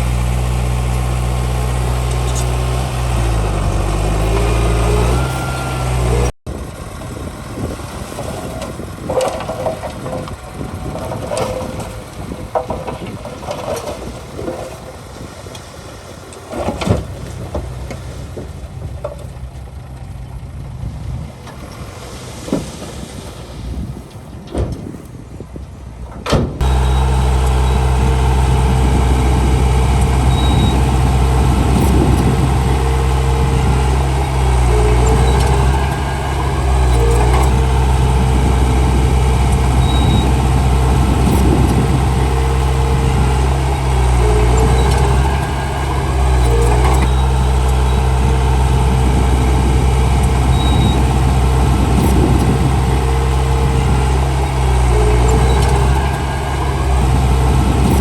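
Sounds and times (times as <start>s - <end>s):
bulldozer diesel engine running: 0.0s - 24.5s, 25.1s - 58.0s.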